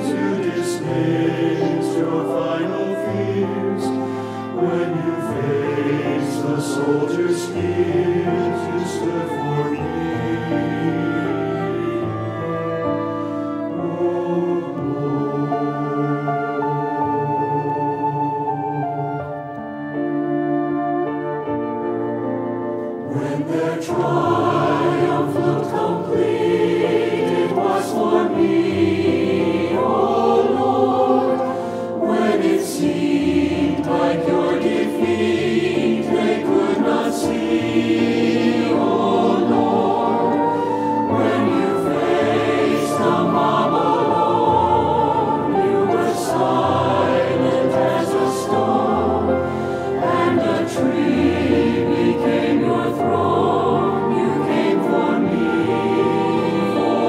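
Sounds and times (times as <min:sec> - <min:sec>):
mixed choir singing: 0:00.0 - 0:18.8, 0:22.8 - 0:57.0.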